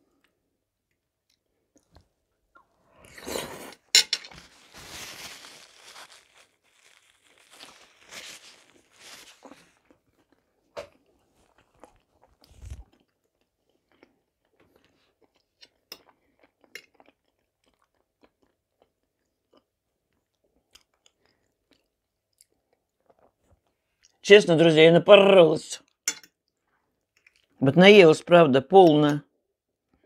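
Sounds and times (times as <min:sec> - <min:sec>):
person chewing: 0:00.1 - 0:24.2, 0:25.9 - 0:27.6.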